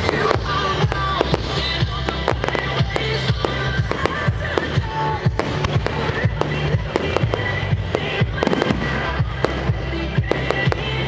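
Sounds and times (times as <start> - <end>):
firework bangs and crackles: 0.0 - 11.0
music playing: 0.0 - 11.0.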